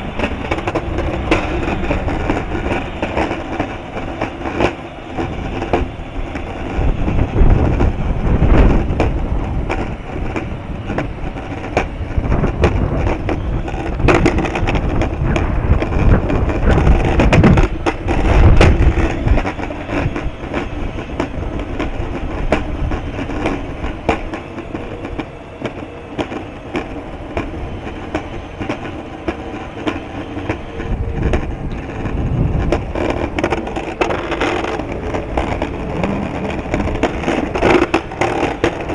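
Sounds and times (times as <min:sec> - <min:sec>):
rolling rumble: 0:00.0 - 0:38.9
wind buffeting microphone: 0:00.0 - 0:38.9.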